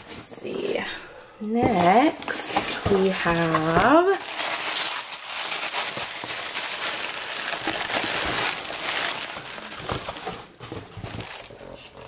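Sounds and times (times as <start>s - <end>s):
paper and plastic wrap crinkling: 1.6s - 12.0s.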